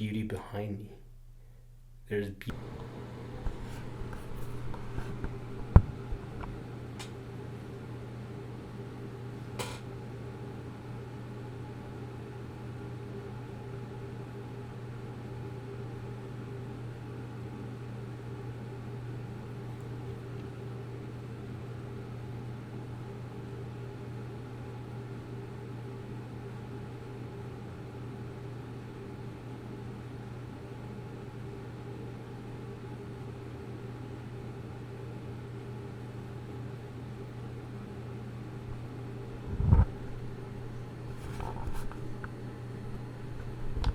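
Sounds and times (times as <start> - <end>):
low background hum: 0.0 - 43.9.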